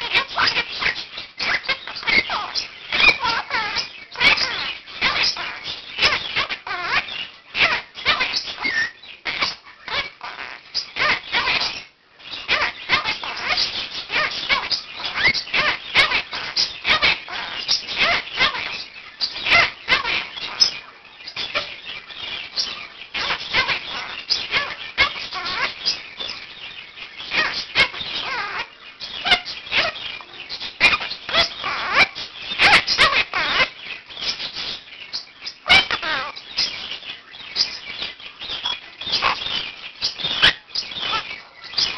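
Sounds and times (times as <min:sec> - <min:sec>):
parakeets chattering and squawking: 0:00.0 - 0:41.9.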